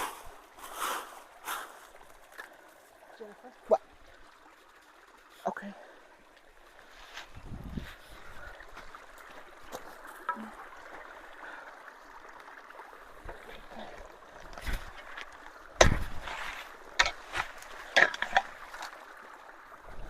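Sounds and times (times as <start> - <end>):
creek water running through culvert: 0.0 - 20.0.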